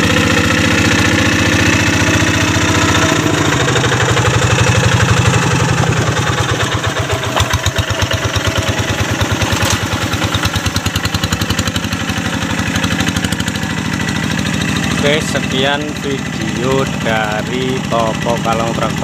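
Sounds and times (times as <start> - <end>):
diesel engine chugging: 0.0 - 19.0.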